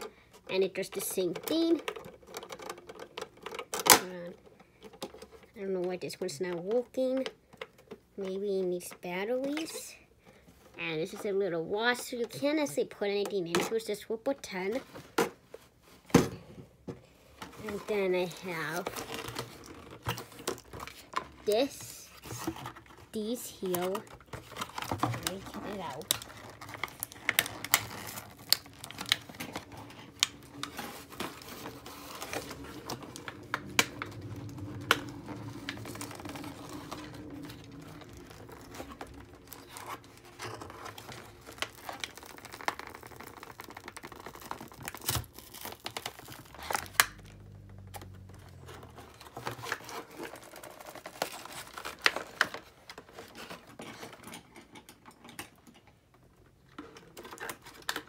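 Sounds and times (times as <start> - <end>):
cardboard and plastic packaging rustling: 0.0 - 58.0.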